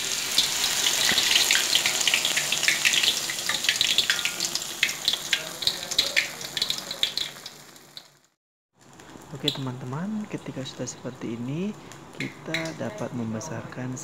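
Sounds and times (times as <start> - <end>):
frying sizzle with crackling pops: 0.0 - 12.9.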